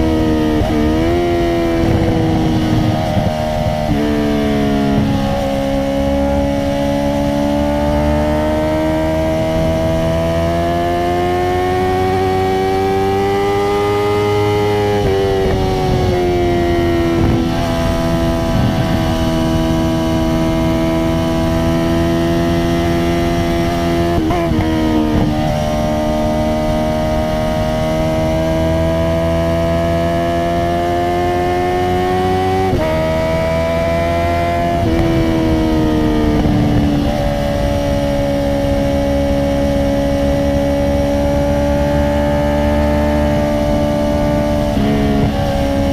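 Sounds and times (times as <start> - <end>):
motorcycle engine revving loud: 0.0 - 45.9.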